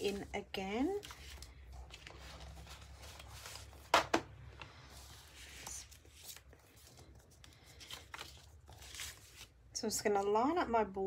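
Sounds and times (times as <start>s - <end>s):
paper rustling: 0.0s - 9.6s.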